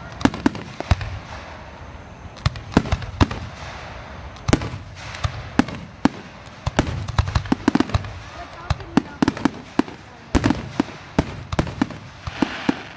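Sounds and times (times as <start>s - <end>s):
fireworks bangs: 0.0s - 12.9s.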